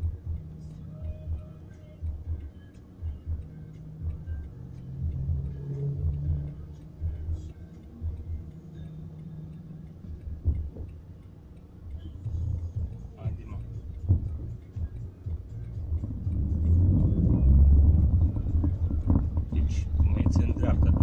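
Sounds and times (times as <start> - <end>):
car engine idling hum: 0.0 - 21.0
pulsing bass music: 0.0 - 21.0
steady ticking: 0.0 - 21.0.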